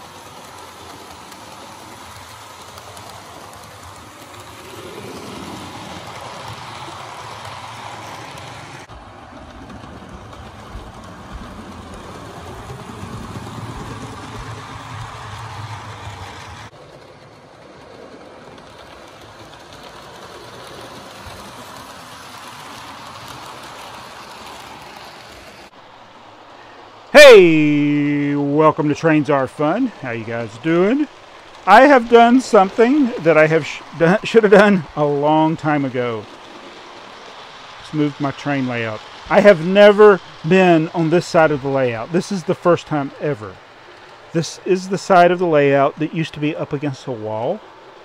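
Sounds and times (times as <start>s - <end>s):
model train motor whir: 0.0s - 16.8s, 18.2s - 25.7s, 28.7s - 48.0s.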